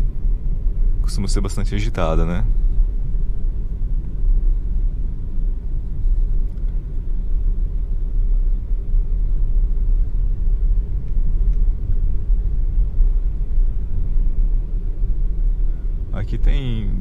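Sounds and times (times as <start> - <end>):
car driving road noise: 0.0 - 17.0.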